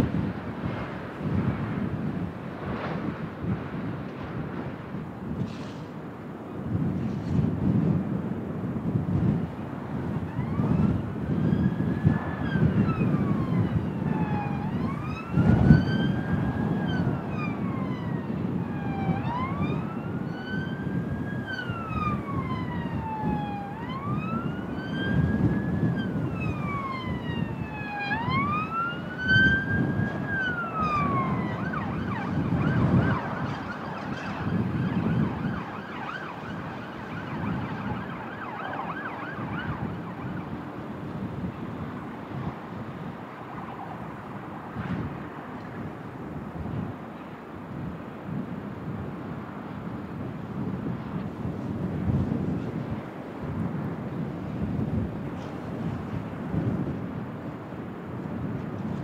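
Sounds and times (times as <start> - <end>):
wind buffeting microphone: 0.0 - 59.0
emergency siren wailing: 8.8 - 59.0.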